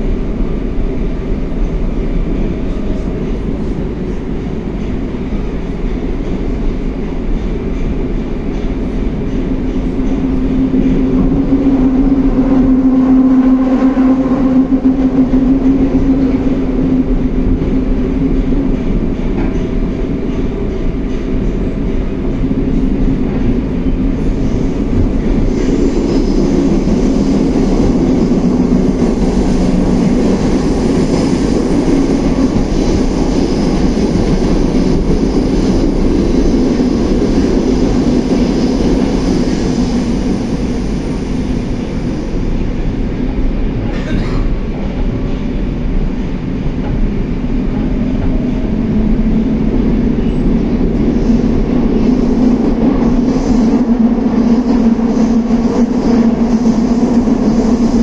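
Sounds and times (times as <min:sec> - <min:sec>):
metro train rolling rumble: 0:00.0 - 0:58.0.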